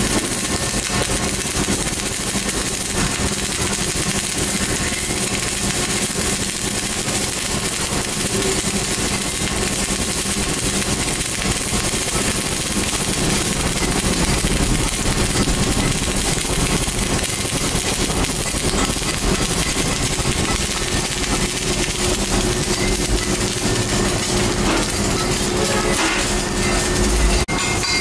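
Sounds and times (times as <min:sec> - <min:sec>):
welding arc crackling: 0:00.0 - 0:27.8.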